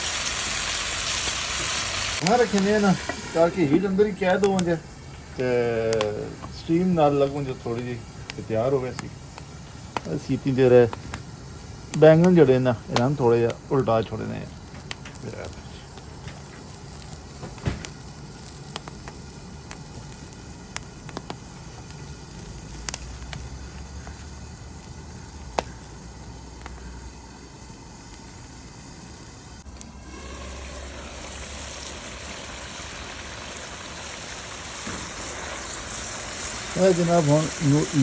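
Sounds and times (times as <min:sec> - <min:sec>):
campfire crackling and popping: 0:00.0 - 0:38.0
food sizzling in a pan: 0:00.0 - 0:38.0.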